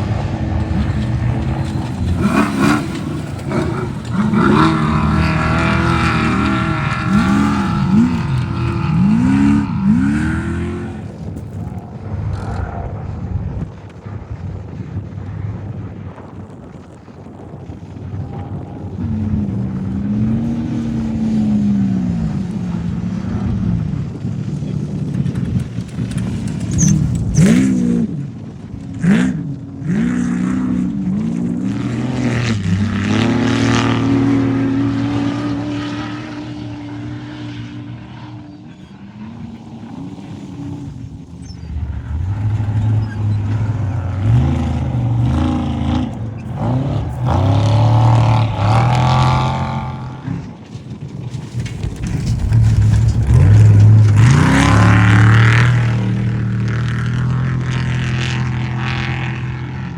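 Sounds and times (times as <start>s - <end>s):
off-road engine revving: 0.0s - 14.1s, 16.6s - 59.9s.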